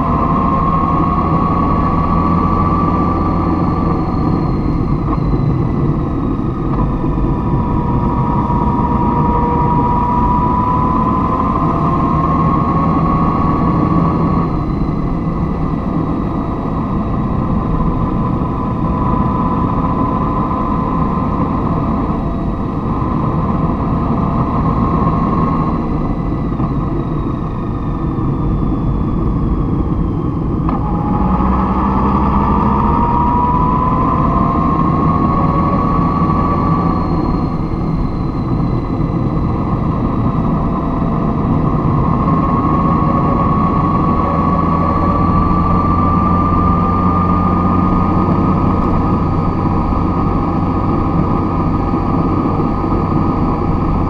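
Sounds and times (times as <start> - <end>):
engine and road rumble: 0.0 - 54.0
faint whine: 0.0 - 54.0.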